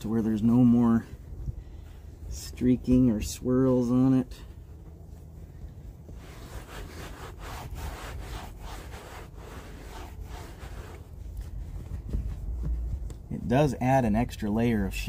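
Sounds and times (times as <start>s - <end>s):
rag rubbing over fiberglass: 0.0s - 13.8s.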